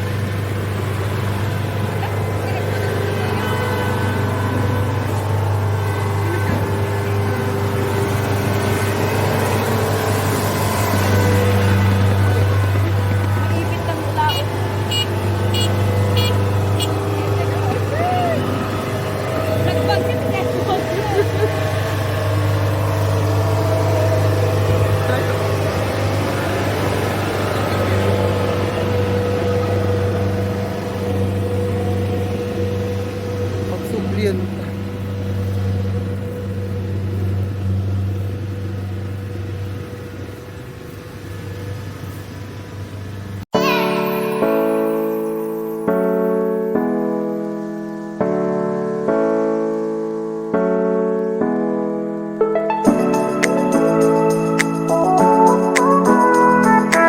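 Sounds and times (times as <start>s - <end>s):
harvester engine droning: 0.0s - 57.0s.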